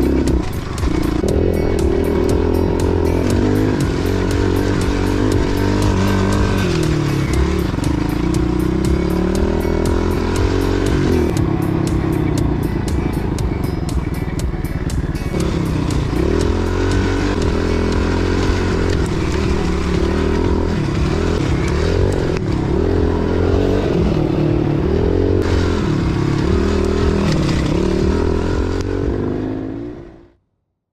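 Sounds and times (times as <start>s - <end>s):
motorbike engine revving: 0.0s - 30.4s.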